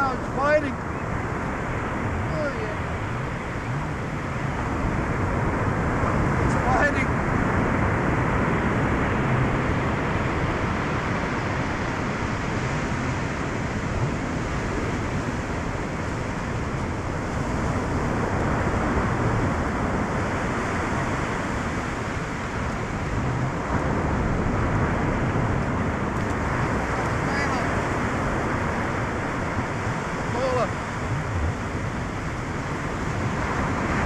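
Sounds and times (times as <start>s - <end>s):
surf washing onto beach: 0.0s - 34.0s
wind on microphone: 0.0s - 34.0s.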